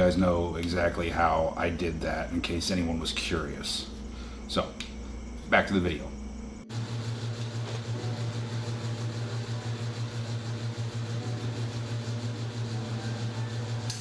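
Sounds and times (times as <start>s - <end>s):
welder arc humming and hissing: 0.0s - 14.0s.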